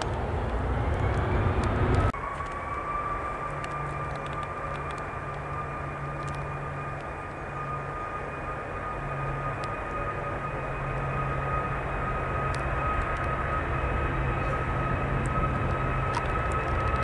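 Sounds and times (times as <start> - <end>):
jet engines spooling up: 0.0 - 17.0.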